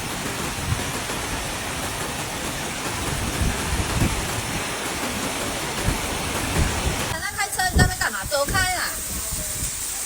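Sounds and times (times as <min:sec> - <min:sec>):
floodwater rushing: 0:00.0 - 0:10.0
rain: 0:00.0 - 0:10.0.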